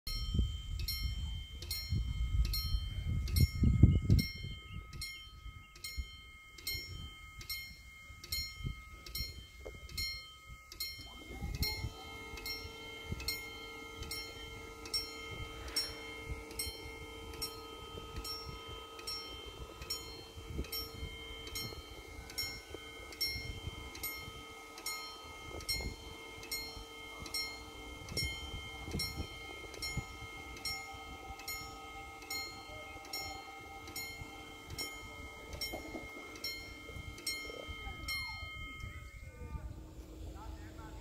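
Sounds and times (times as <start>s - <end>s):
level-crossing bell ringing: 0.1s - 39.7s
barrier motor hum: 0.1s - 41.0s.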